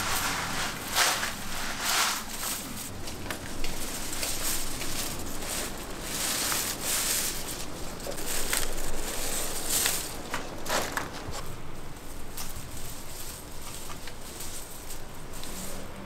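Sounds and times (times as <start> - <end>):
foliage rustling: 0.0 - 16.0
twigs clicking: 0.1 - 16.0.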